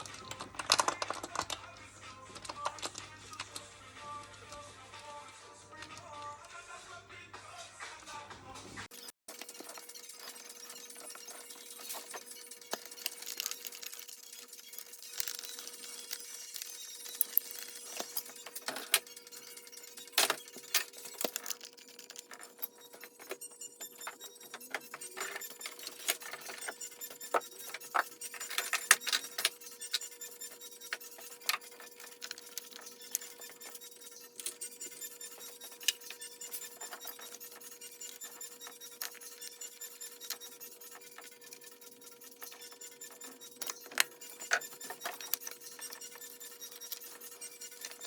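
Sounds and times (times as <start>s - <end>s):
metal tools clinking on engine parts: 9.3s - 48.0s.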